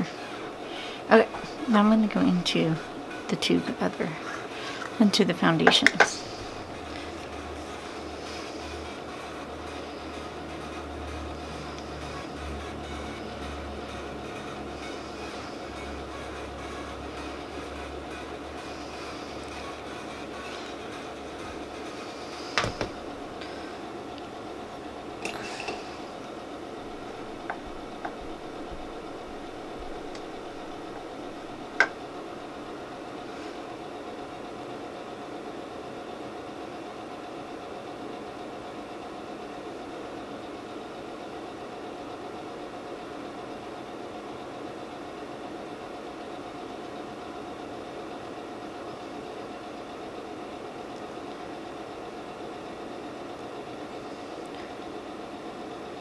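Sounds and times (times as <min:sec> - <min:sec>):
background hum: 0:00.0 - 0:56.0.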